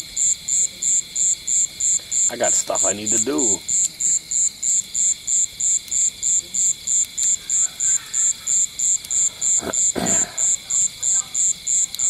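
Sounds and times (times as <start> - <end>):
high insect drone: 0.0 - 12.0
insects chirping: 0.0 - 12.0.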